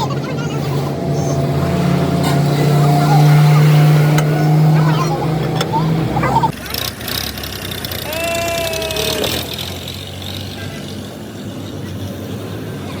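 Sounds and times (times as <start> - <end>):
road traffic: 0.0 - 13.0
vehicle engine running: 0.0 - 13.0.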